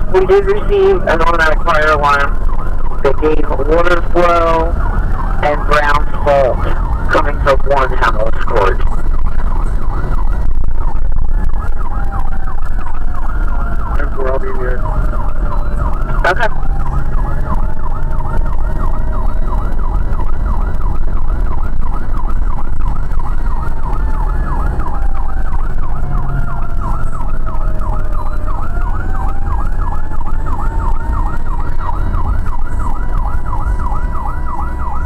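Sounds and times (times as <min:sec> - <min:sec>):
engine and road rumble: 0:00.0 - 0:35.0
siren fast yelp: 0:00.0 - 0:35.0
siren wailing tone: 0:00.0 - 0:35.0.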